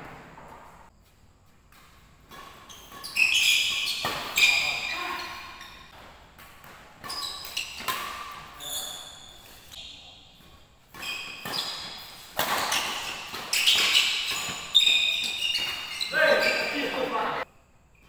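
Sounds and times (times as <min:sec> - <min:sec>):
shoes squeaking on floor: 0:00.1 - 0:18.0
rackets hitting shuttlecock: 0:01.7 - 0:16.8.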